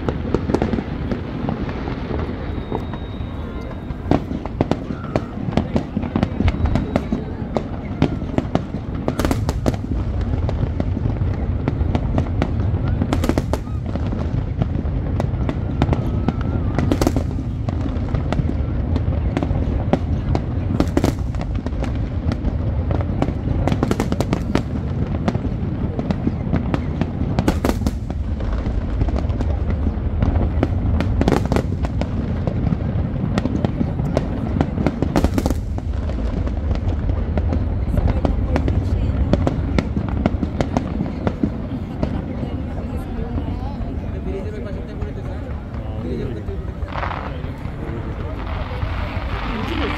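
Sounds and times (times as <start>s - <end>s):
fireworks bangs: 0.0s - 49.9s
fireworks rumble and cracks: 0.0s - 49.9s.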